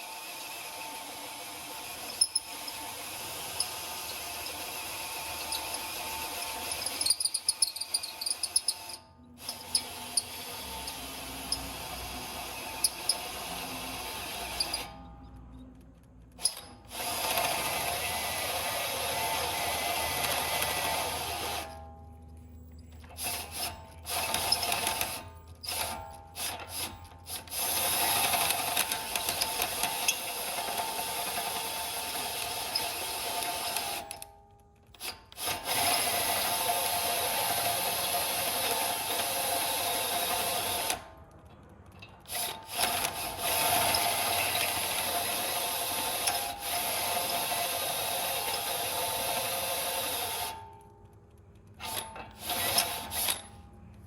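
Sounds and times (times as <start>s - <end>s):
power drill whining: 0.0s - 15.1s, 16.4s - 21.9s, 23.0s - 34.2s, 34.9s - 41.1s, 42.2s - 50.6s, 51.8s - 53.6s.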